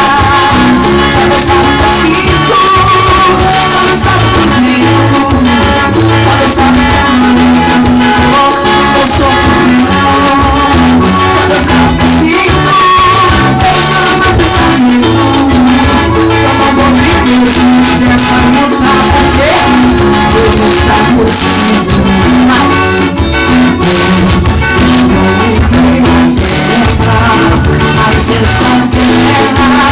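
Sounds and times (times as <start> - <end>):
upbeat gospel band playing: 0.0 - 29.9.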